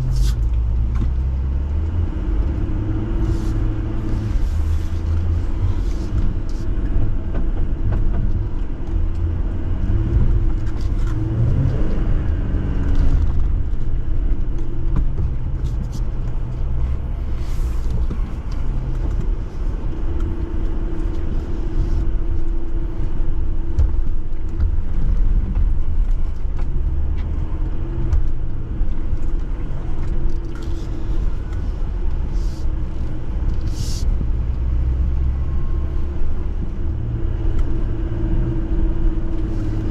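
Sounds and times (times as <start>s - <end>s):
engine low rumble: 0.0s - 39.9s.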